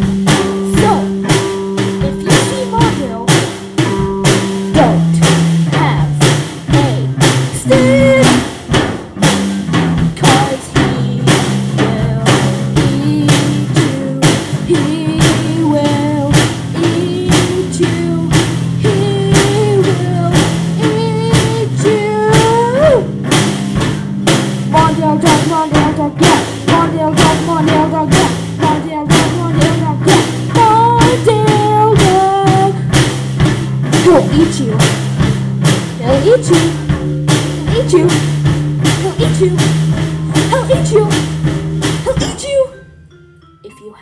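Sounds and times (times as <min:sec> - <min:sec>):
drum kit beat: 0:00.0 - 0:42.9
bass notes: 0:00.0 - 0:43.6
guitar line: 0:00.0 - 0:44.0.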